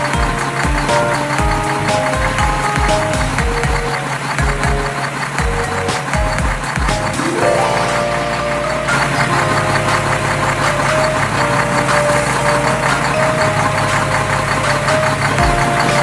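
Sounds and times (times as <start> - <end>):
held notes changing pitch: 0.0 - 16.0.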